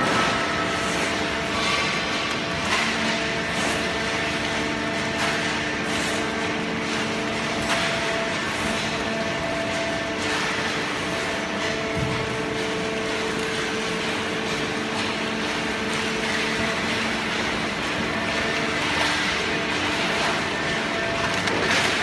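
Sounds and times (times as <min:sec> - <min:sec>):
machine drone: 0:00.0 - 0:22.0.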